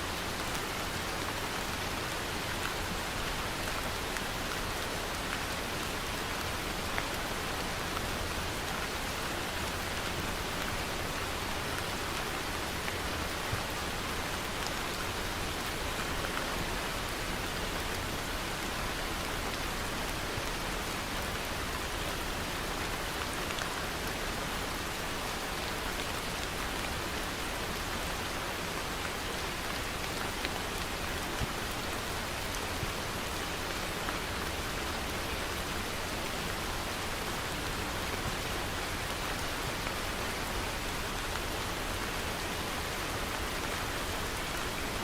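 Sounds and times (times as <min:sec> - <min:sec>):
steady rain hiss: 0:00.0 - 0:45.0.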